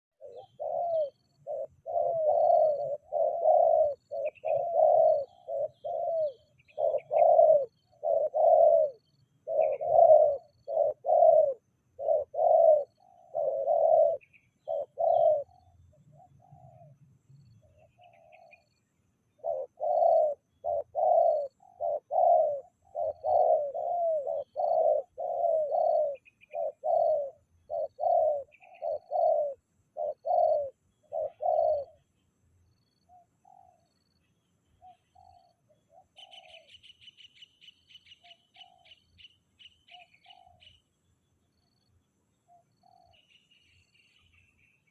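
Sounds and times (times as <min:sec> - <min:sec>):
dove cooing: 0:00.2 - 0:17.0, 0:17.6 - 0:32.2, 0:32.8 - 0:34.1, 0:34.8 - 0:40.9, 0:42.5 - 0:44.6.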